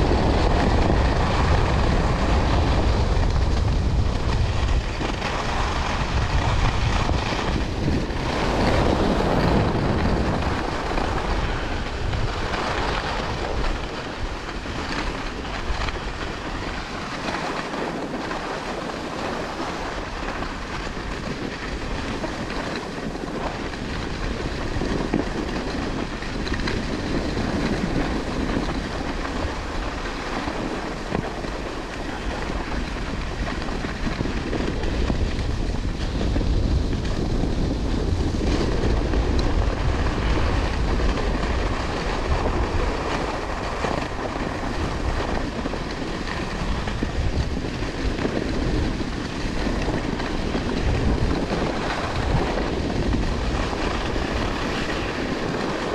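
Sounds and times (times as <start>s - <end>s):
skis running over hard snow: 0.0s - 55.9s
wind rushing over microphone: 0.0s - 55.9s.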